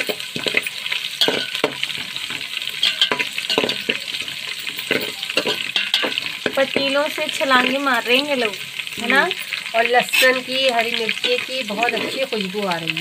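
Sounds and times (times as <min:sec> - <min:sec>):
metal spoon scraping a pot: 0:00.0 - 0:07.8, 0:09.3 - 0:12.4
vegetables sizzling in hot oil: 0:00.0 - 0:13.0.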